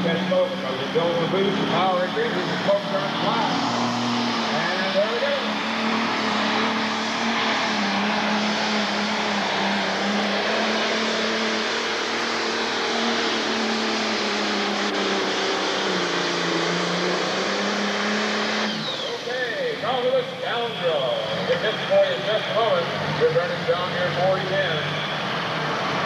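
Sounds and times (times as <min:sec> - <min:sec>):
diesel engine droning at high revs: 0:00.0 - 0:26.0.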